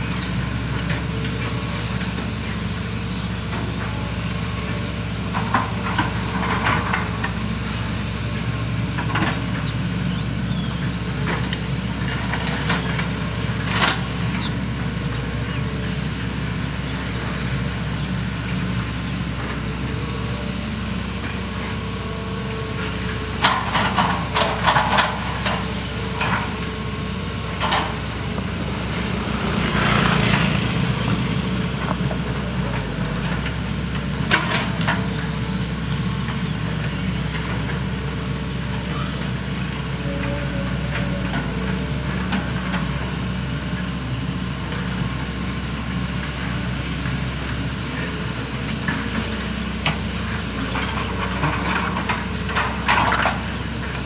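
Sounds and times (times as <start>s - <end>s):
excavator diesel engines running: 0.0s - 54.0s.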